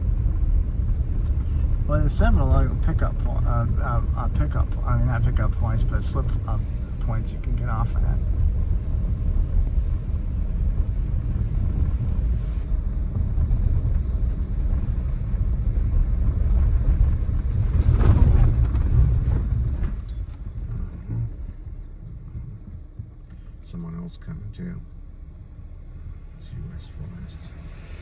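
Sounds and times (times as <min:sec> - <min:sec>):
vehicle driving rumble: 0:00.0 - 0:28.0.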